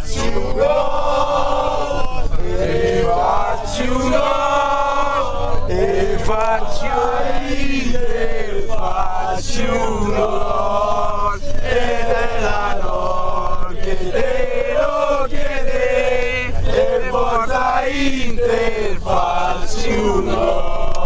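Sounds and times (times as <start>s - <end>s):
men chanting in unison: 0.0s - 21.0s.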